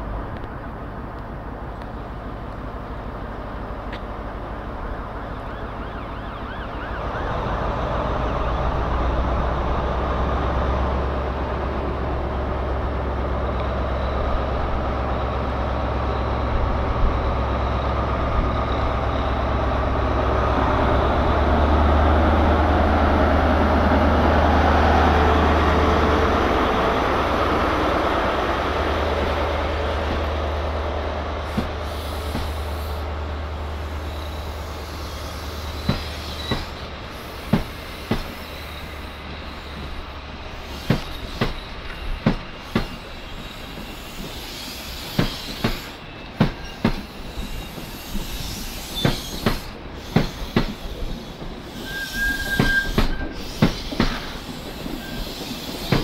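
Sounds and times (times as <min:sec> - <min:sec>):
train pulling away: 0:00.0 - 0:56.0.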